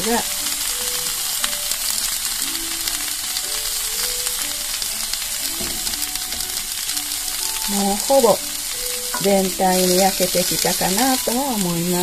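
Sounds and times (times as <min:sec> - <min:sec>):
food sizzling in butter: 0:00.0 - 0:12.0.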